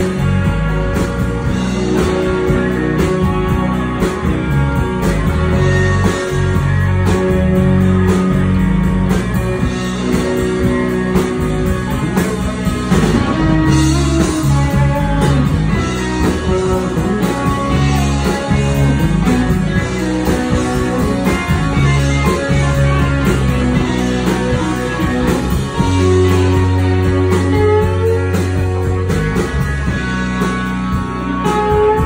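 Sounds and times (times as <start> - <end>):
bass guitar: 0.0 - 32.0
drum beat: 0.0 - 32.0
electric guitars: 0.0 - 32.0.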